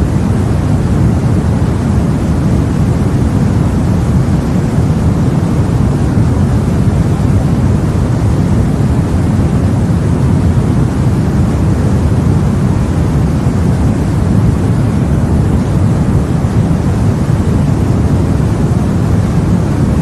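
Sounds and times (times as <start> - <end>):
deep white noise: 0.0 - 20.0.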